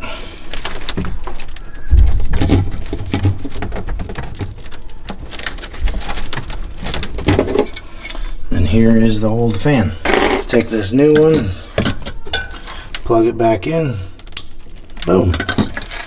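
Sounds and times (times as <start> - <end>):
wiring rustling: 0.0 - 16.0.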